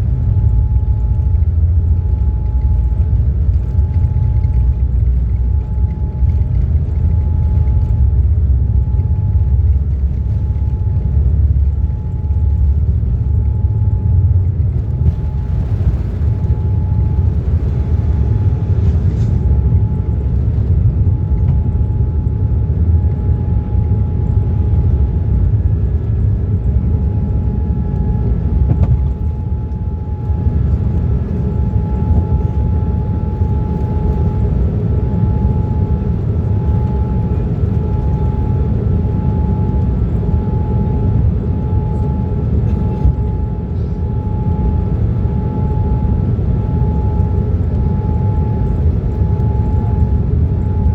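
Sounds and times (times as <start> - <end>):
low rumble of engines and airflow: 0.0 - 50.9
thin steady whine: 0.0 - 50.9.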